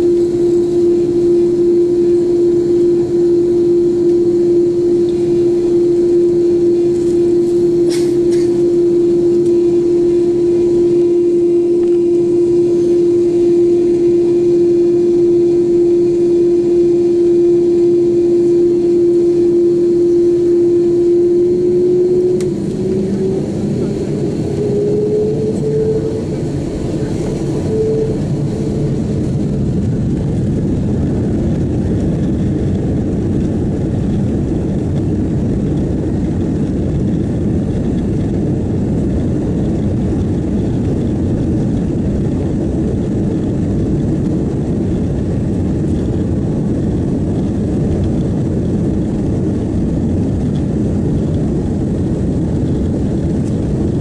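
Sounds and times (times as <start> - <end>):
jet engine whine and drone: 0.0 - 54.0.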